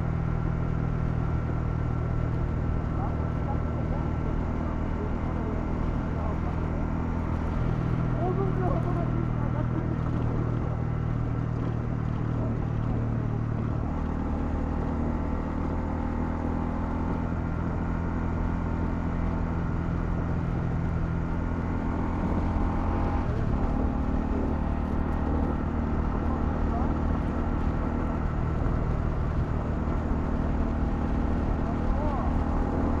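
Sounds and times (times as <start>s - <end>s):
motorcycle engine running: 0.0s - 33.0s
road noise rushing: 1.9s - 33.0s.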